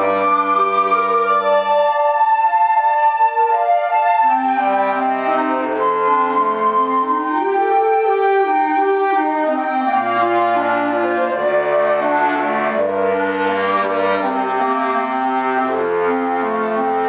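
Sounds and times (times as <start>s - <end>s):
woodwind ensemble playing chords: 0.0s - 17.0s.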